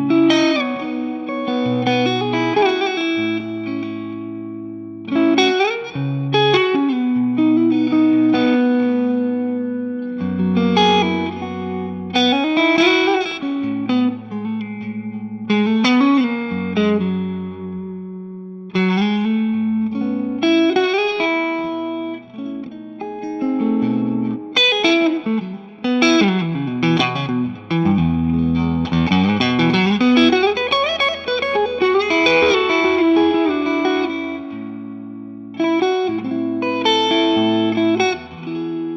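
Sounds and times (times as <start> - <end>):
electric guitar playing: 0.0 - 38.9.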